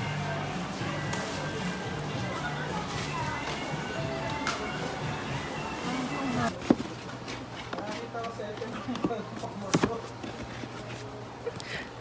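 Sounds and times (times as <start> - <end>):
faint indistinct voices: 0.0 - 12.0.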